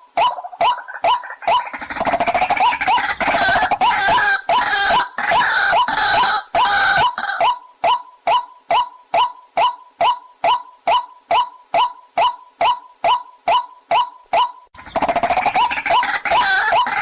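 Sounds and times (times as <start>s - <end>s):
waterhen calling: 0.2s - 17.0s.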